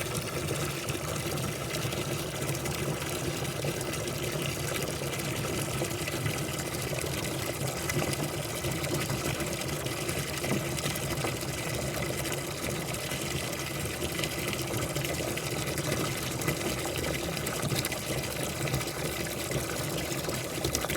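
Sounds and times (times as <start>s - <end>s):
pump hum: 0.0s - 20.9s
water splashing and trickling: 0.0s - 20.9s.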